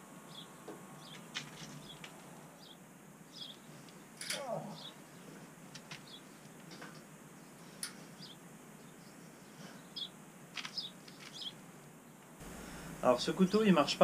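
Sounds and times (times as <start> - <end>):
rustling of insulation blocks: 0.7 - 2.5, 3.3 - 14.0.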